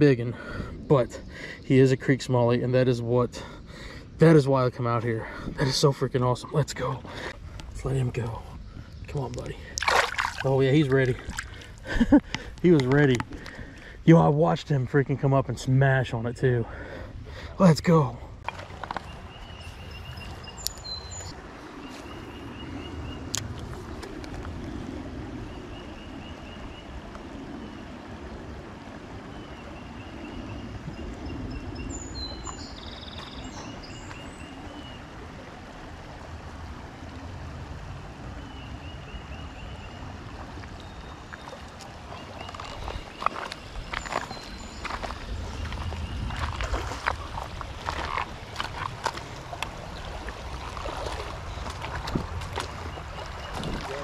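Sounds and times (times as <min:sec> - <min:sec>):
creek rushing: 0:09.1 - 0:16.2, 0:16.8 - 0:54.0.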